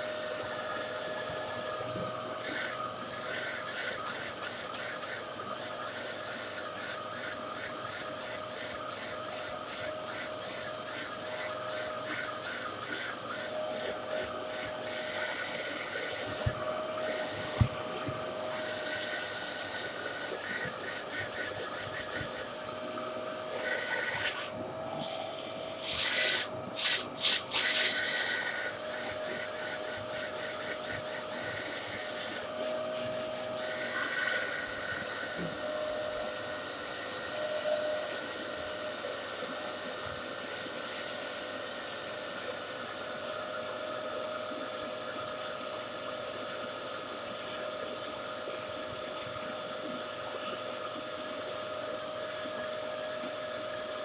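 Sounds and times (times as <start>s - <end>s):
upright vacuum cleaner whine: 0.0s - 54.0s.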